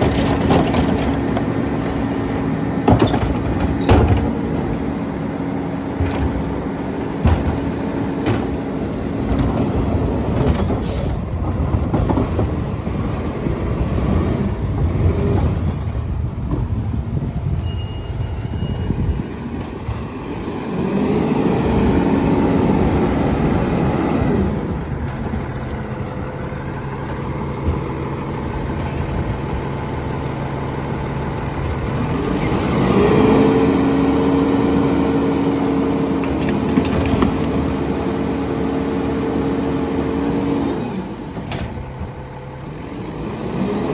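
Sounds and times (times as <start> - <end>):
garbage truck diesel engine: 0.0 - 43.9.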